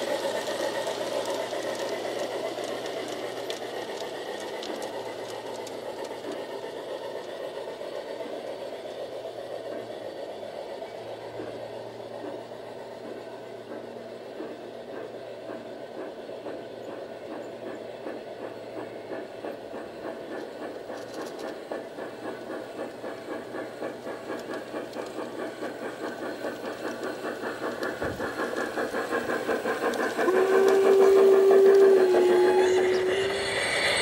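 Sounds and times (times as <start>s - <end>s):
model steam train running on track: 0.0s - 34.0s.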